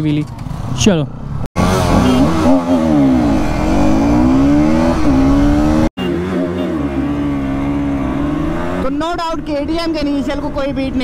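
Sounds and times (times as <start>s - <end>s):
motorcycle engine at full throttle: 1.6s - 11.0s.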